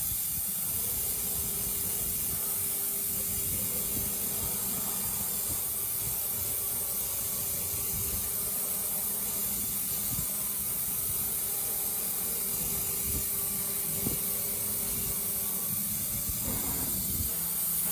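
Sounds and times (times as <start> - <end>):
router cutting wood hiss: 0.0 - 17.9.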